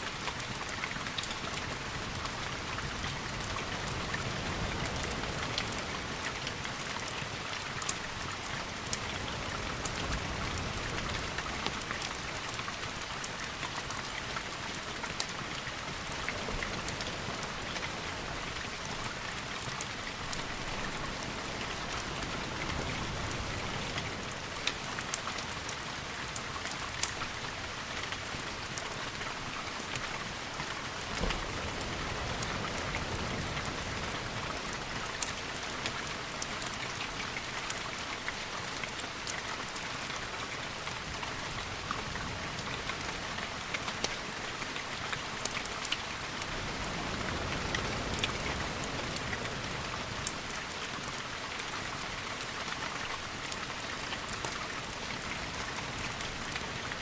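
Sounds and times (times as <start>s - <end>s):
rain falling with ticks: 0.0s - 57.0s.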